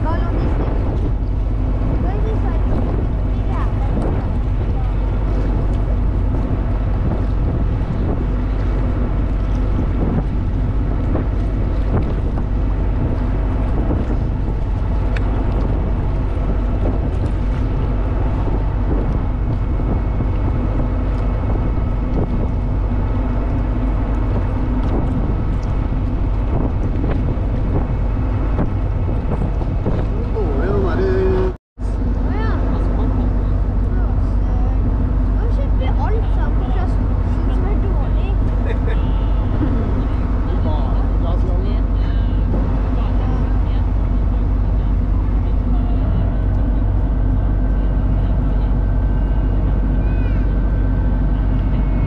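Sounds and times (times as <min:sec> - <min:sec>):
boat engine drone: 0:00.0 - 0:52.0
water rushing along hull: 0:00.0 - 0:52.0
wind on microphone: 0:00.0 - 0:52.0.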